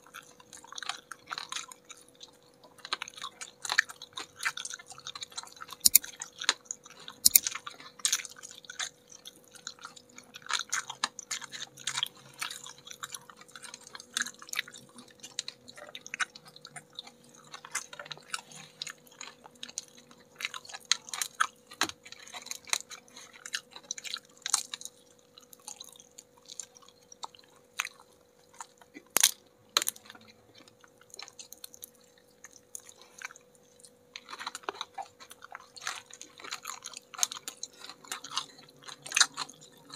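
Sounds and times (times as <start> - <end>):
people chewing crunchy chicken: 0.0 - 39.9.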